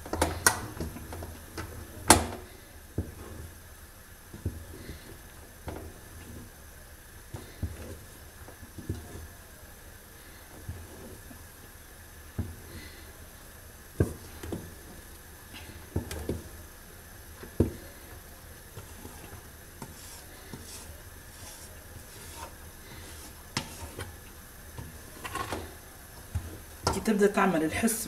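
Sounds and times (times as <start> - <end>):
wooden spoon stirring thick paste: 0.0 - 27.5.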